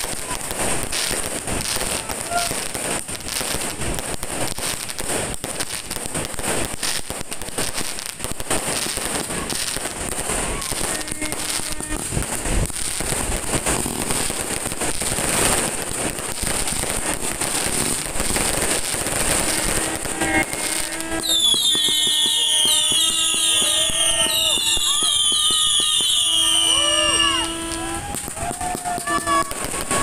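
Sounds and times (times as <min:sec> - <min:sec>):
fireworks cracking and banging: 0:00.0 - 0:30.0.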